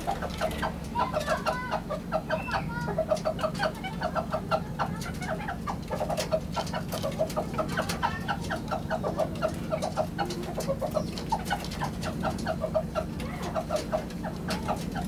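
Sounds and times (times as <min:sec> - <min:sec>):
birds calling rapidly: 0:00.0 - 0:15.0.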